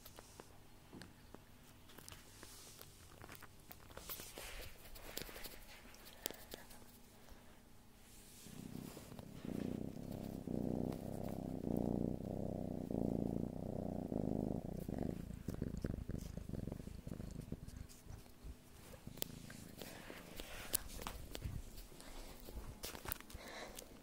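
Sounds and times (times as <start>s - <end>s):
soft rustling and clicks: 0.0s - 7.4s, 8.1s - 11.9s, 14.7s - 24.0s
cat purring: 1.8s - 24.0s.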